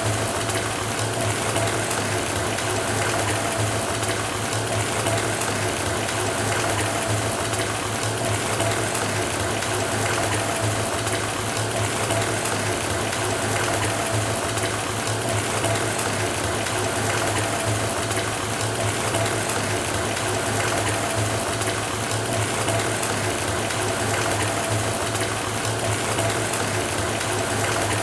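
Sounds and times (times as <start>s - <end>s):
faucet water running into tub: 0.0s - 28.0s.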